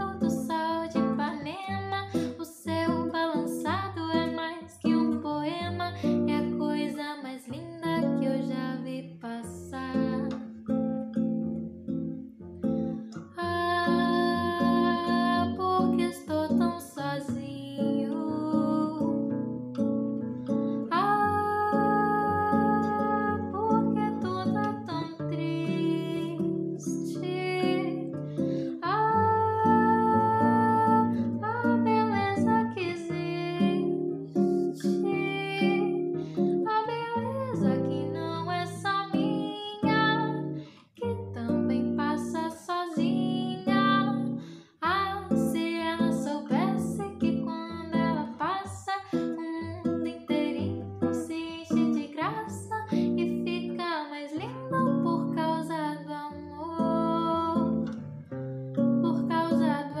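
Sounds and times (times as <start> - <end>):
woman singing: 0.0 - 10.6, 13.1 - 19.4, 20.8 - 58.0, 58.9 - 60.0
acoustic guitar chords: 0.0 - 60.0.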